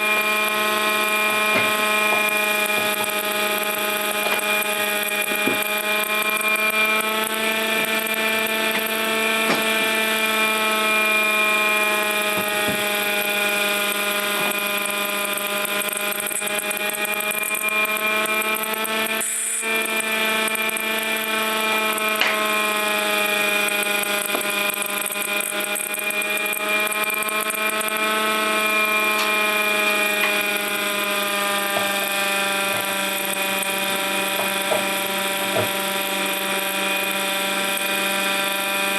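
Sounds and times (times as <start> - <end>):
low motor hum: 0.0 - 38.9
siren with wavering pitch: 0.0 - 38.9.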